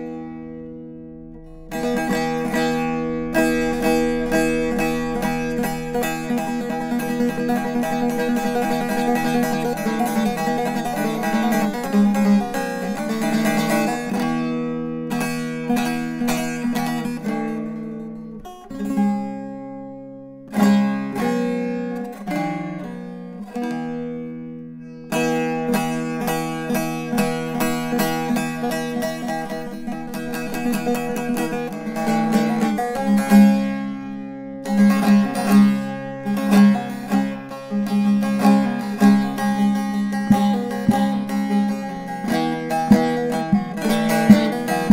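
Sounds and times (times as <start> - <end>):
saz strummed and picked: 0.0 - 44.9.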